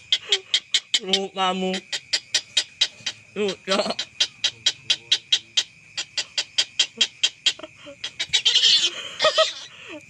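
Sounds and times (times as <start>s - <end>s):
bird clicking calls: 0.0s - 8.7s.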